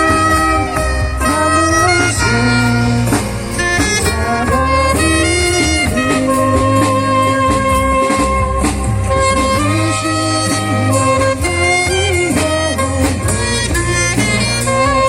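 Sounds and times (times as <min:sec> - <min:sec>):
bass line: 0:00.0 - 0:15.0
lead instrument melody: 0:00.0 - 0:15.0
steady drum beat: 0:00.0 - 0:15.0.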